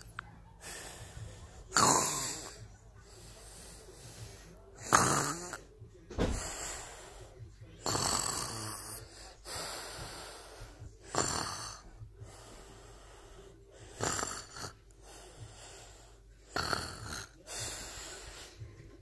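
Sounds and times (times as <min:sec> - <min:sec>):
person snoring: 0:00.0 - 0:04.0, 0:04.8 - 0:18.6
quiet breathing: 0:00.0 - 0:19.0.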